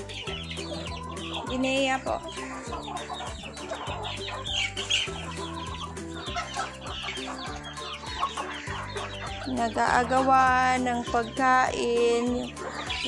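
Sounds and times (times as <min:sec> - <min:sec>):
background music: 0:00.0 - 0:13.0
chickens clucking: 0:00.0 - 0:13.0.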